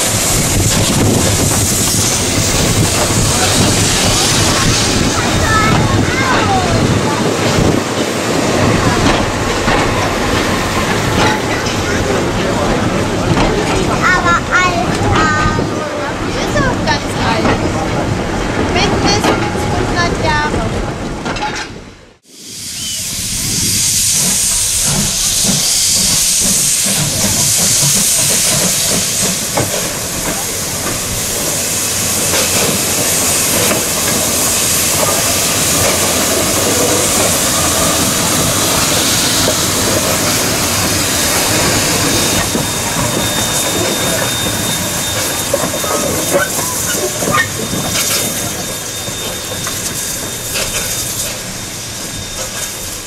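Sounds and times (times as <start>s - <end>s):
steam locomotive hissing: 0.0s - 20.4s, 22.2s - 53.0s.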